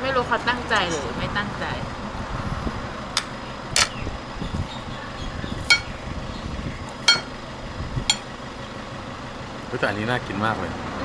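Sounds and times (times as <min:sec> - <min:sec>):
low background rumble: 0:00.0 - 0:09.6.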